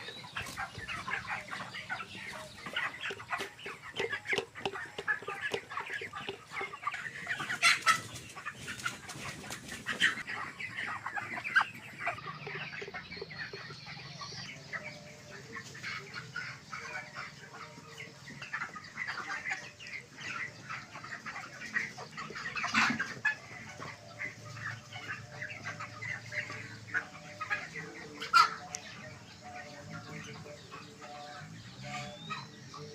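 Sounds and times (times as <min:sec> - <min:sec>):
chickens peeping and clucking: 0:00.0 - 0:32.9.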